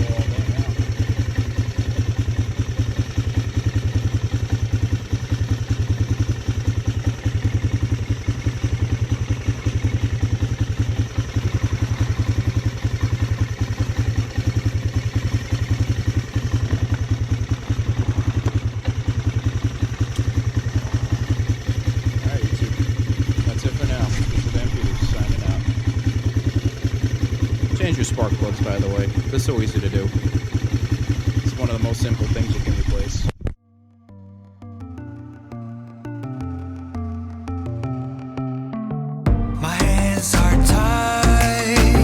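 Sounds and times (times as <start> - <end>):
atv engine idling: 0.0 - 33.3, 39.4 - 42.0.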